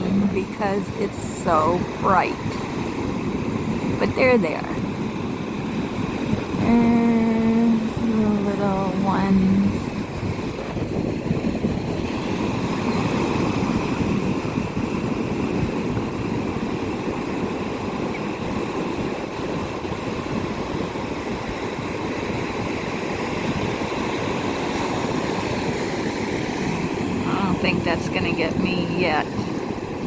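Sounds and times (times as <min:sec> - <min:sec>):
ocean surf washing up beach: 0:00.0 - 0:30.0
wind buffeting microphone: 0:00.0 - 0:30.0.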